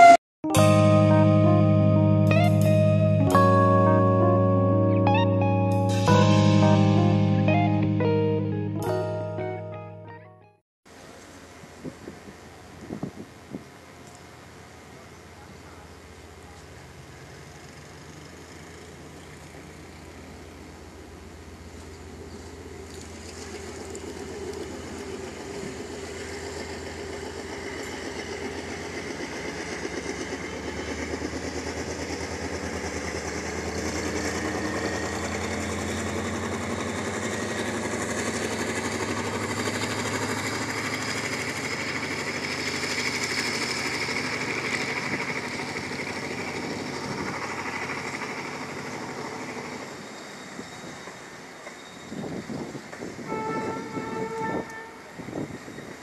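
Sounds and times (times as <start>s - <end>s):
diesel locomotive passing: 0.0s - 10.2s, 10.9s - 56.0s
train coaches rolling: 11.0s - 56.0s.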